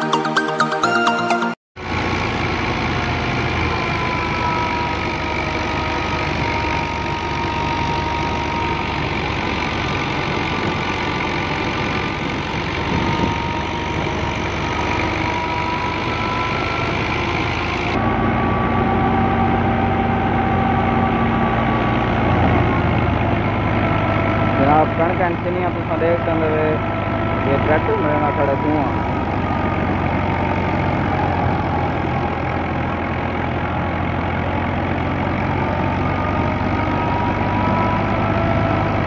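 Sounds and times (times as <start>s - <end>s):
diesel tractor engine running: 1.8s - 39.0s
thresher whirring with faint whine: 1.9s - 39.0s.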